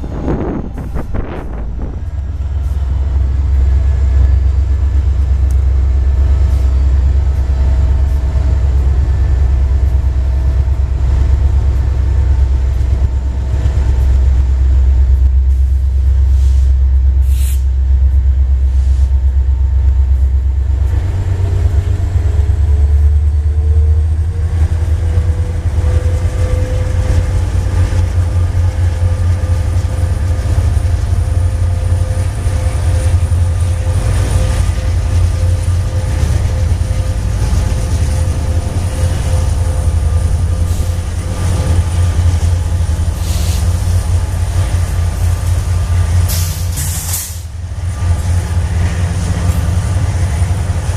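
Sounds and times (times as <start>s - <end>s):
diesel locomotives rumbling: 0.0s - 50.9s
locomotive whine: 0.0s - 50.9s.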